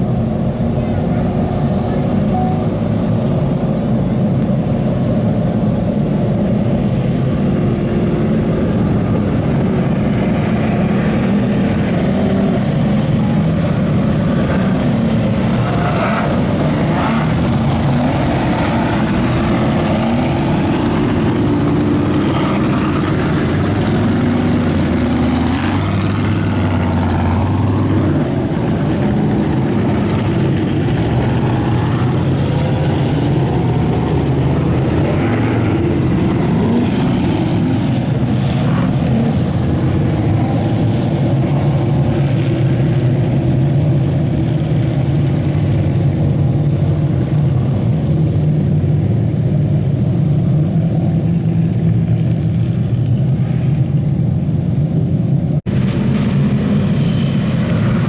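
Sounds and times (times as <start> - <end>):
off-road buggy engines racing: 0.0 - 58.0.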